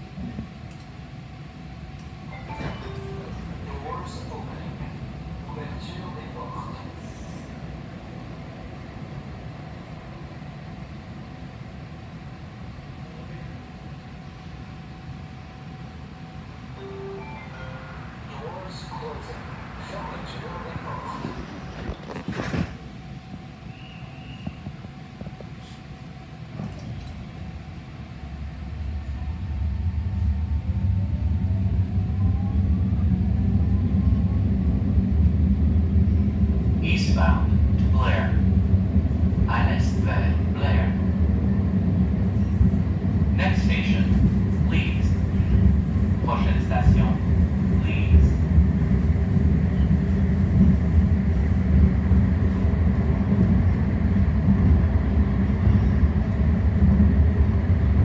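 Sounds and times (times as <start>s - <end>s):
light-rail car hum and rumble: 0.0s - 58.0s.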